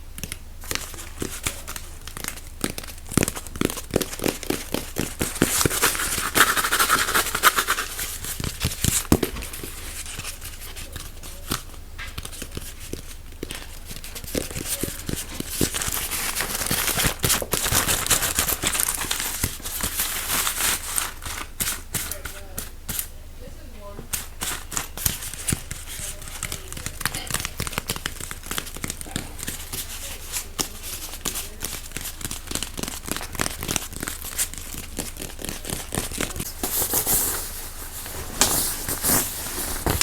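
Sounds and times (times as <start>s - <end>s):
crinkling material rustling: 0.1s - 23.1s, 23.7s - 40.0s.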